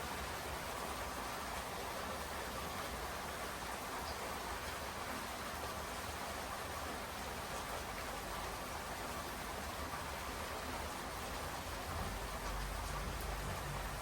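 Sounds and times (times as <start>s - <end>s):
steady rainfall hiss: 0.0s - 14.0s.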